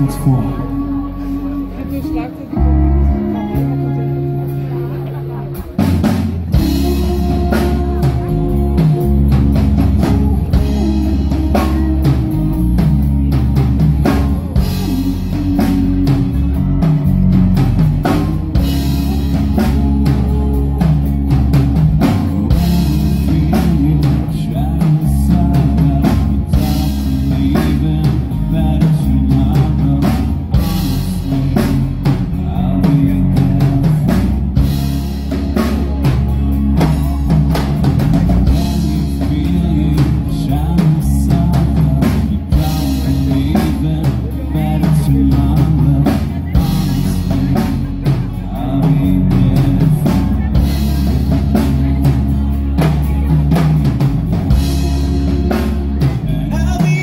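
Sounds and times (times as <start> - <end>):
bass guitar: 0.0 - 57.0
drum kit: 0.0 - 57.0
electric guitar: 0.0 - 57.0.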